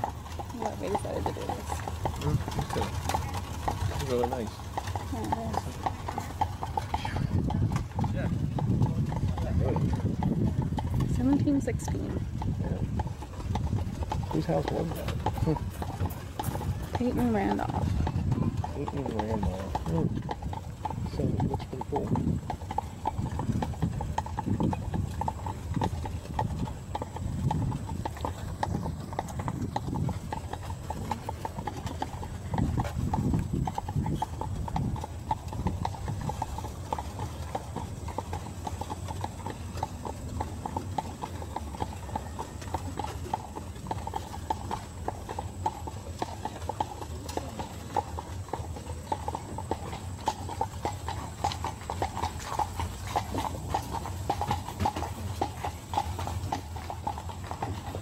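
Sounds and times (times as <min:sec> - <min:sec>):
horse hooves clip-clopping on road: 0:00.0 - 0:58.0.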